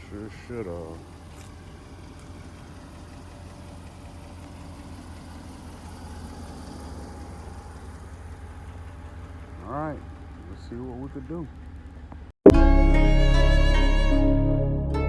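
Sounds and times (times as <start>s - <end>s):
gasoline engine idling: 0.0s - 12.4s.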